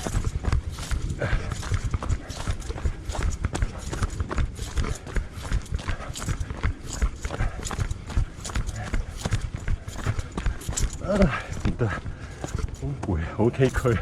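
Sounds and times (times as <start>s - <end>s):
running footsteps on dirt trail: 0.0s - 14.0s.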